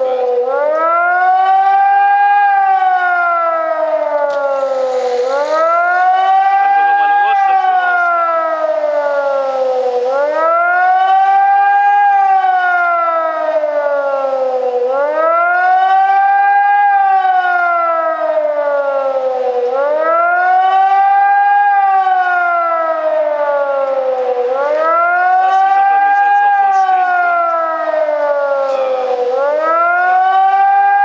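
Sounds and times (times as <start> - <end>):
siren rising and falling wail: 0.0 - 31.0.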